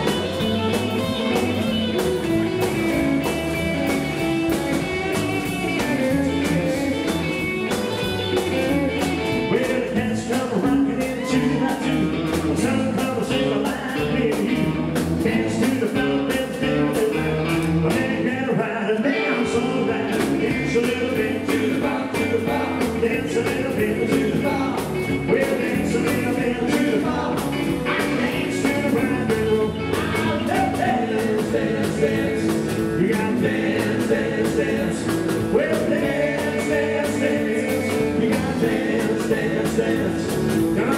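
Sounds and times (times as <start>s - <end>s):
rock band playing: 0.0s - 40.9s
man singing: 5.4s - 7.5s, 8.4s - 40.9s.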